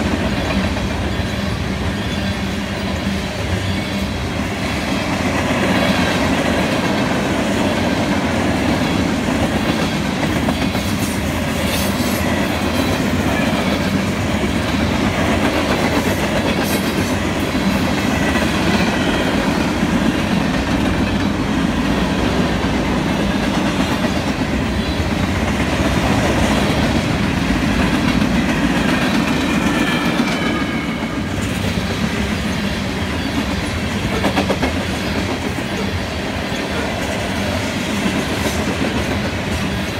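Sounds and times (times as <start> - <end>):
clickety-clack over rail joints: 0.0 - 2.2, 3.5 - 39.9
freight train wheels rumbling: 0.0 - 39.9.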